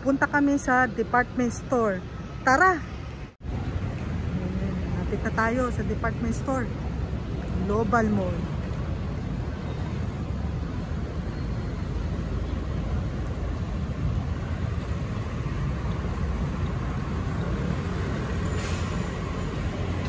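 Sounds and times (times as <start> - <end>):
scooters and cars passing: 2.9 - 20.0.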